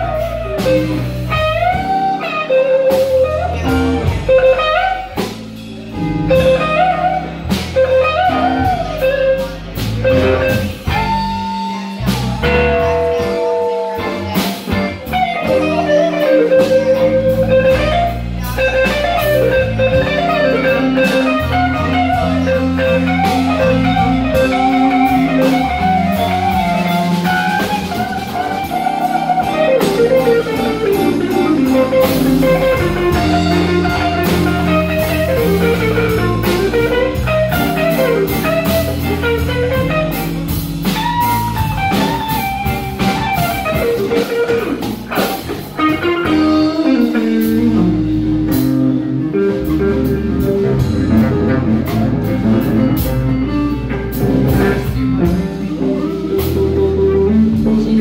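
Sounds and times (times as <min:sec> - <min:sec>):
blues band playing: 0:00.0 - 0:58.0
lead guitar bending notes: 0:00.0 - 0:58.0.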